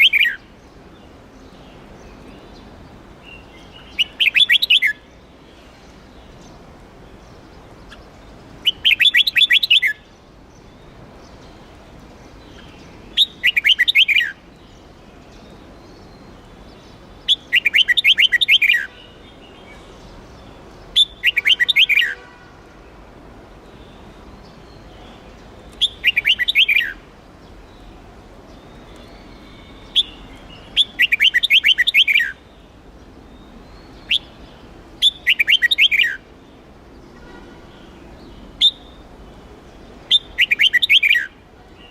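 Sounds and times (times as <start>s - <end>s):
bulbul singing whistled phrases: 0.0s - 0.6s, 2.1s - 5.3s, 7.2s - 11.6s, 12.3s - 22.4s, 23.7s - 27.1s, 27.7s - 36.3s, 36.9s - 39.1s, 39.8s - 41.9s.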